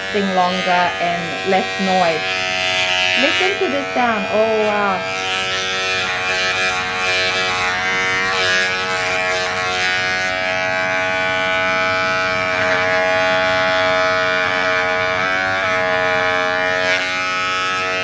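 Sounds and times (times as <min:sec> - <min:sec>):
pet clipper whining: 0:00.0 - 0:18.0.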